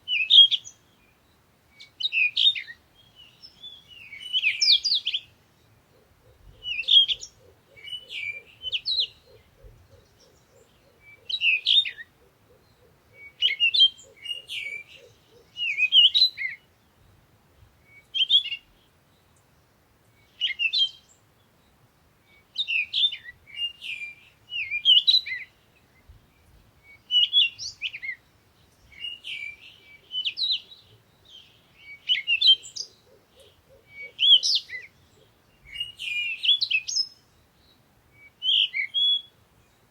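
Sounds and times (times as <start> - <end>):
songbirds chirping and singing: 0.0 - 17.2, 20.2 - 39.9.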